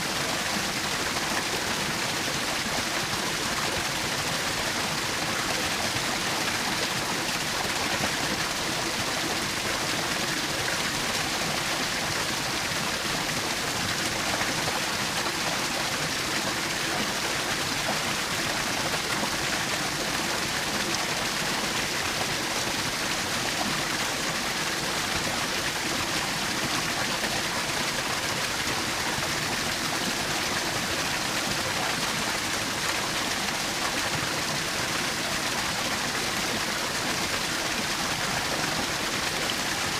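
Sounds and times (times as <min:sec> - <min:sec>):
waterfall splashing and rushing: 0:00.0 - 0:39.9.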